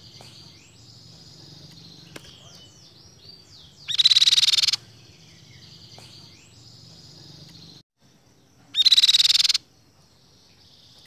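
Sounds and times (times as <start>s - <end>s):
bird buzzing trills: 0.0s - 11.0s.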